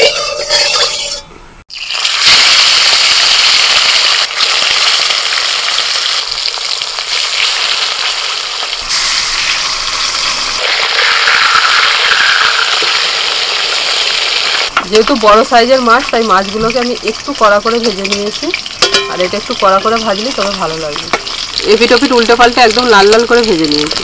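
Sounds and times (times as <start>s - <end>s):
fish sizzling in hot oil: 1.7s - 24.0s.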